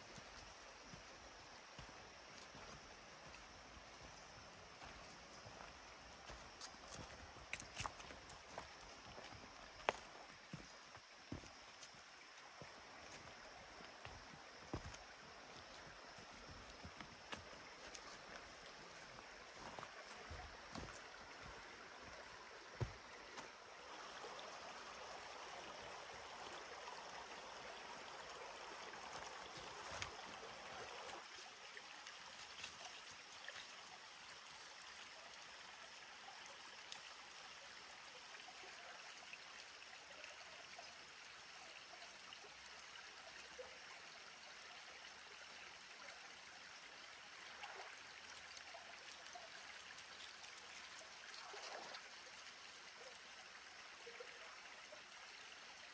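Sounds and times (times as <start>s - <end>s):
creek trickling over stones: 0.0s - 55.9s.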